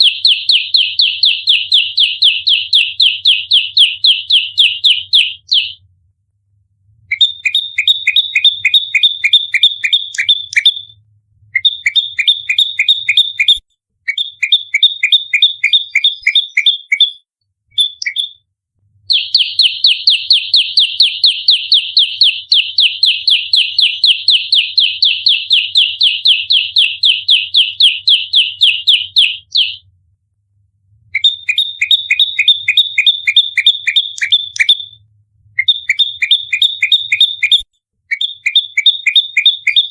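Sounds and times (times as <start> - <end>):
bird singing rapid sharp chips: 0.0 - 5.8, 7.1 - 11.0, 11.6 - 18.4, 19.1 - 29.8, 31.2 - 35.0, 35.6 - 39.9.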